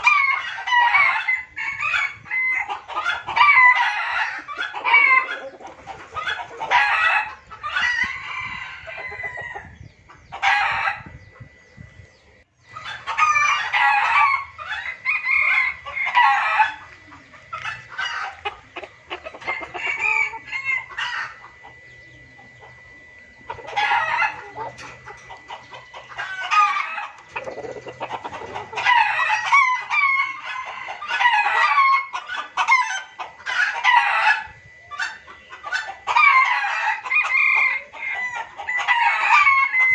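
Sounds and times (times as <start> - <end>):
junglefowl crowing and clucking: 0.0 - 39.9.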